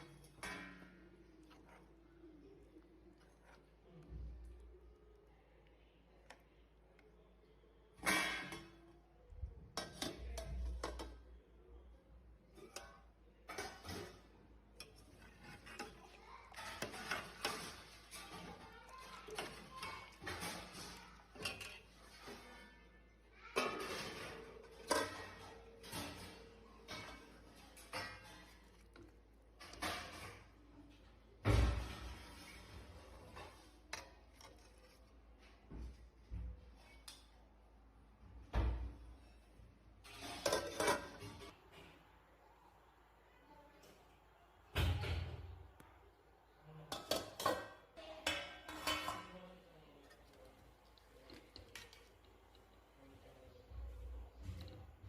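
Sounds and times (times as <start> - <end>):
dishes and utensils clattering: 0.0 - 4.4, 8.0 - 11.4, 12.4 - 37.4, 38.5 - 42.0, 46.7 - 55.0.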